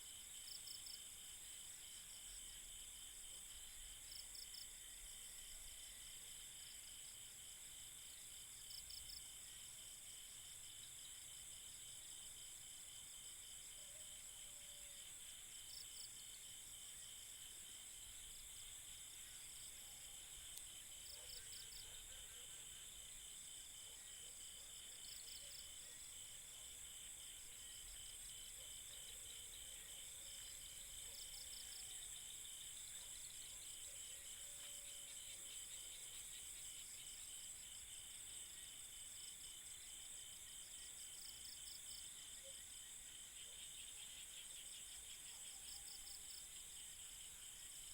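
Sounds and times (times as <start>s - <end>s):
night insects chirring: 0.1s - 47.9s.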